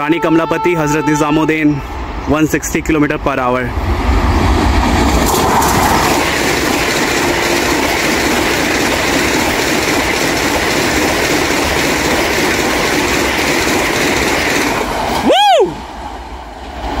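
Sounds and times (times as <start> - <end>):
electric train rushing past: 1.0 - 17.0.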